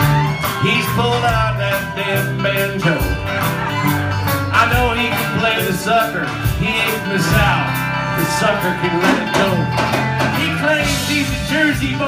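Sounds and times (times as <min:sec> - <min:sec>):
person singing into microphone: 0:00.0 - 0:03.2, 0:04.6 - 0:12.0
banjo: 0:00.0 - 0:12.0
country-rock band playing: 0:00.0 - 0:12.0
drum beat: 0:00.0 - 0:12.0.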